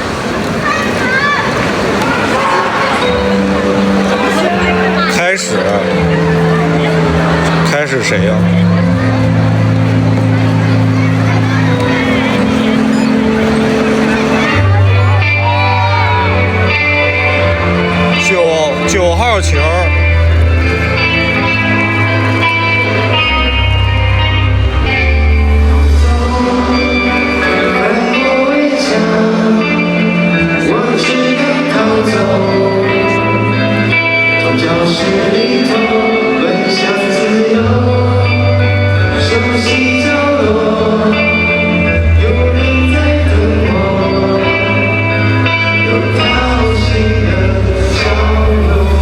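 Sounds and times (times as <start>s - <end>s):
live pop-rock band with singing: 0.0s - 49.0s
held bass notes: 2.6s - 49.0s.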